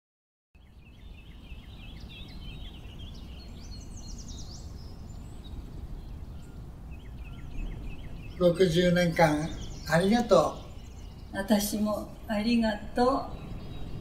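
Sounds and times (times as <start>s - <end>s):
small birds chirping: 0.6s - 14.0s
low outdoor rumble: 0.7s - 14.0s.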